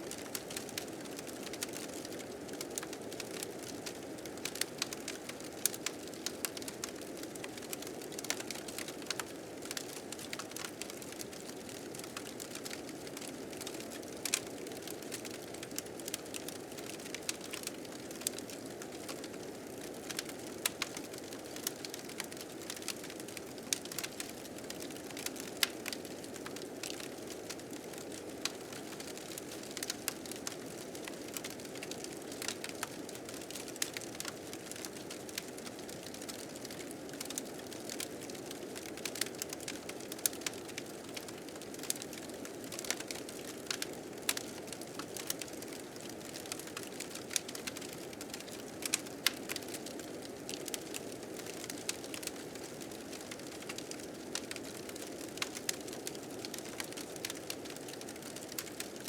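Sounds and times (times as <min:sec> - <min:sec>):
fire crackling and popping: 0:00.1 - 0:59.0.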